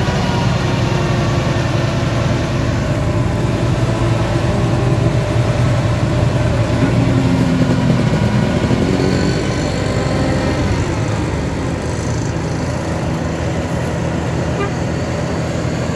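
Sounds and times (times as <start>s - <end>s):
heavy diesel engine running: 0.0s - 15.9s.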